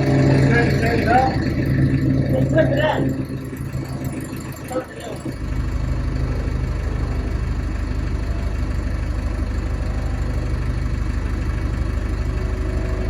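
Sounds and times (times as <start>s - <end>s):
lifting machine engine idling: 0.0s - 13.0s.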